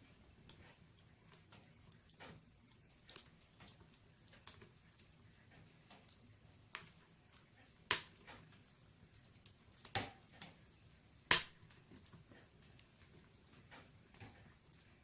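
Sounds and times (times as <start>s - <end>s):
burning logs popping: 0.0s - 15.0s
wood fire crackling: 0.0s - 15.0s.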